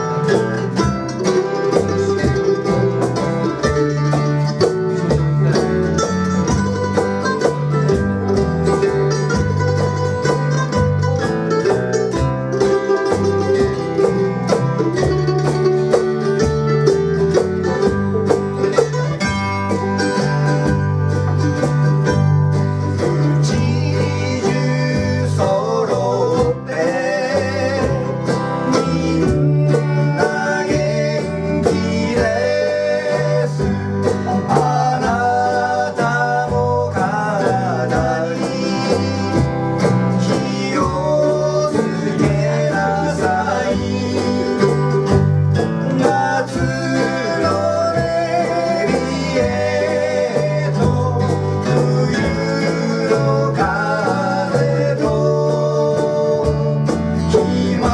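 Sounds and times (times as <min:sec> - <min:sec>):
guitar strummed and picked: 0:00.0 - 0:57.9
walking bass line: 0:00.0 - 0:57.9.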